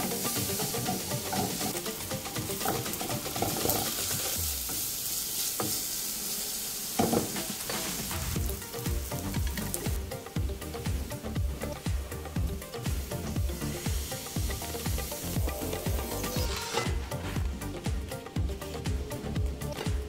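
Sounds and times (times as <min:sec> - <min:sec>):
onions sizzling in a pan: 0:00.0 - 0:20.0.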